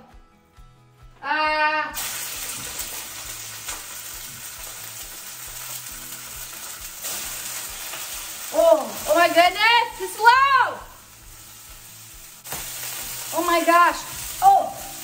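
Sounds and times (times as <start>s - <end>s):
chicken sizzling in hot oil: 2.0s - 15.0s.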